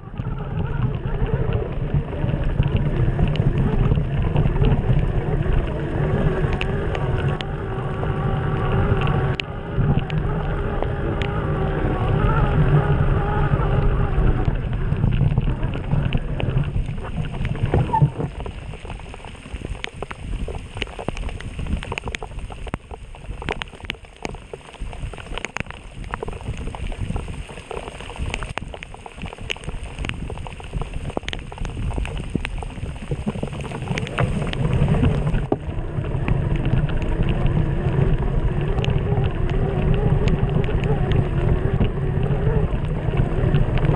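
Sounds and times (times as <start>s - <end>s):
wind rumbling on microphone: 0.0s - 43.9s.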